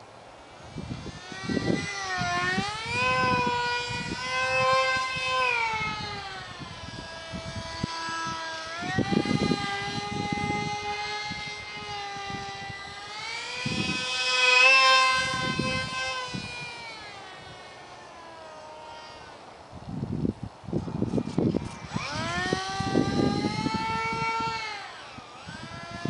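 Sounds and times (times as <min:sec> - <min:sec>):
small electric motor whining: 0:00.0 - 0:26.0.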